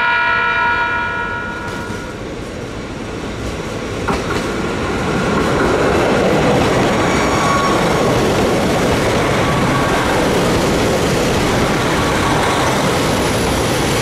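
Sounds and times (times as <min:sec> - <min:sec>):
train engines and wheels running: 0:00.0 - 0:14.0.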